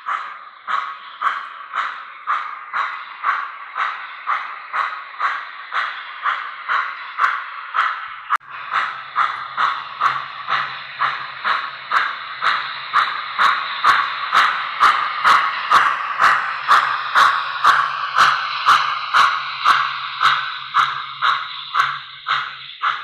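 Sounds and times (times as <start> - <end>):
model train steam chuffs: 0.0 - 23.0.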